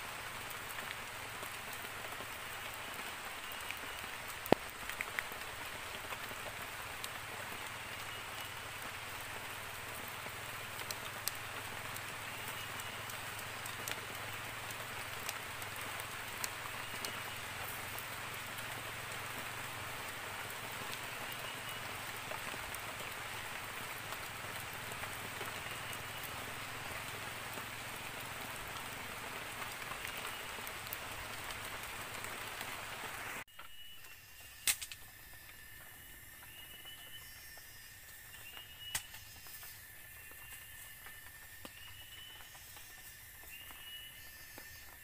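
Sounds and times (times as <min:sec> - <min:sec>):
rain hiss: 0:00.0 - 0:45.0.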